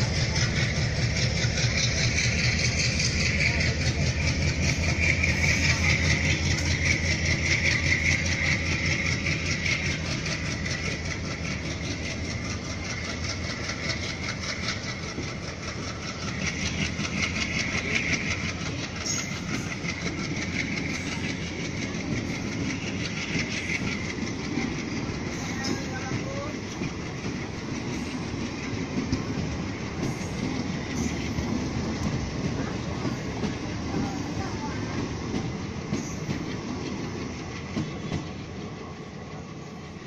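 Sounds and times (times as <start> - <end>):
train wheels clacking over rail joints: 0.0 - 40.0.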